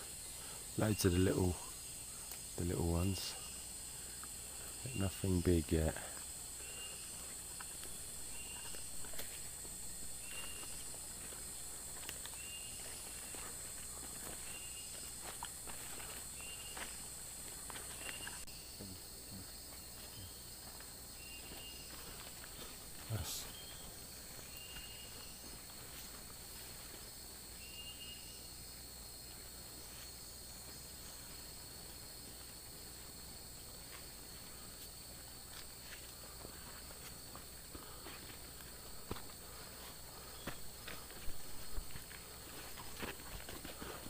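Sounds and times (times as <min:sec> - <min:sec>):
insect chorus hiss: 0:00.0 - 0:44.0.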